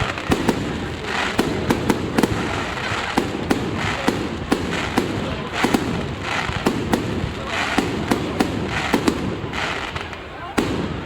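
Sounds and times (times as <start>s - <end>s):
fireworks bursting with sharp bangs: 0.0s - 11.0s
fireworks hiss and crackle: 0.0s - 11.0s.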